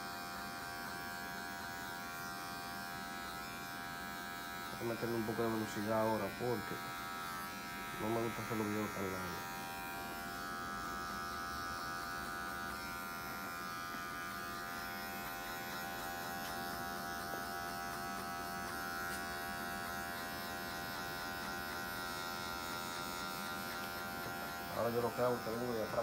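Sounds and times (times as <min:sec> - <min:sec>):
electric hair clipper running: 0:00.0 - 0:26.0.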